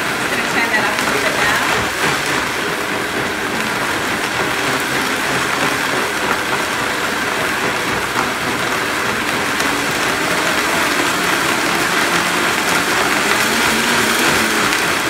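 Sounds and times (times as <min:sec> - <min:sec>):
blender running: 0:00.0 - 0:15.0.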